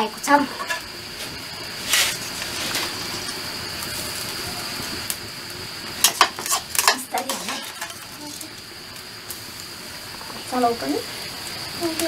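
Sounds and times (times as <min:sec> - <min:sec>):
food sizzling in wok: 0:00.0 - 0:12.0.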